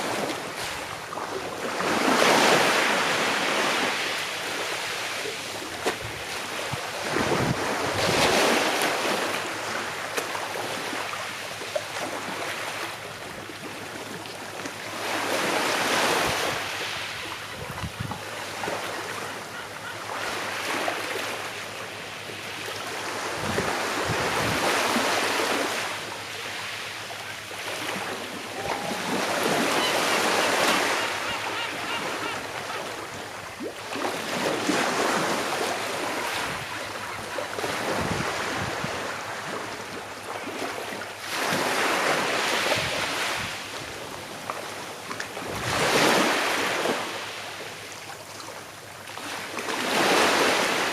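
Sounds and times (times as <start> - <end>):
sea waves washing onto shore: 0.0 - 50.9.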